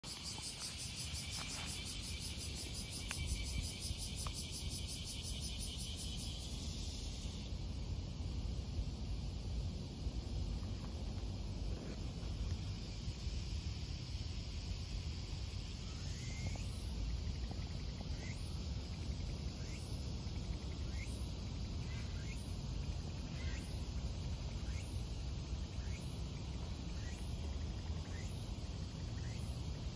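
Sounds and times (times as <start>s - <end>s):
insects chirping: 0.0s - 29.9s.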